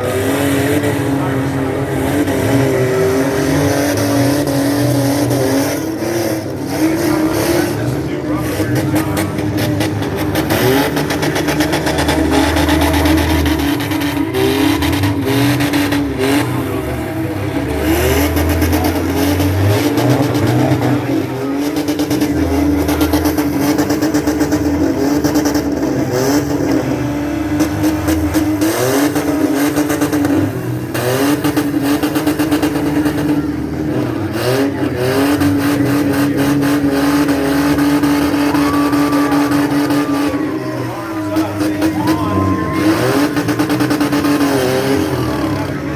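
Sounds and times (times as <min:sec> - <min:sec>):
car engines revving hard: 0:00.0 - 0:45.9
cars colliding: 0:00.0 - 0:45.9.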